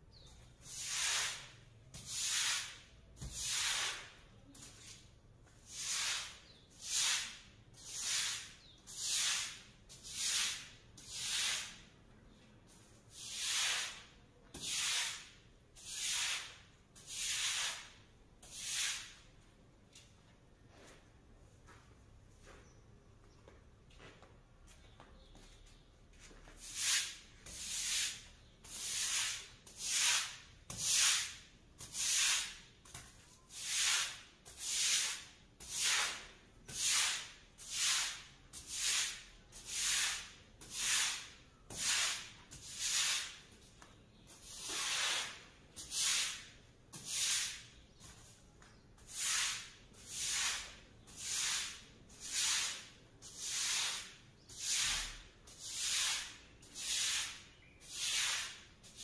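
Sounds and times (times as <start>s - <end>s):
brush scrubbing wet concrete: 0.6s - 12.0s, 12.7s - 19.3s, 26.5s - 48.4s, 49.0s - 59.0s.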